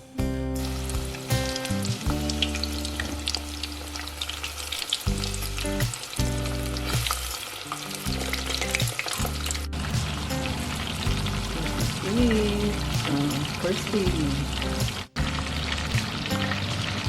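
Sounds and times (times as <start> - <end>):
chicken wings sizzling in oil: 0.6 - 17.0.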